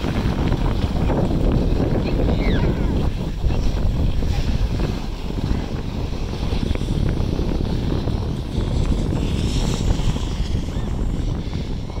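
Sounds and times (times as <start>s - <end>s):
skis sliding over snow: 0.0s - 12.0s
wind buffeting microphone: 0.0s - 12.0s.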